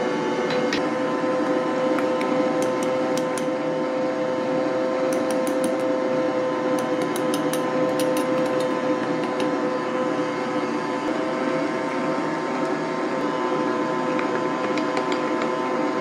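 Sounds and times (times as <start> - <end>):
electric stand mixer humming: 0.0 - 16.0.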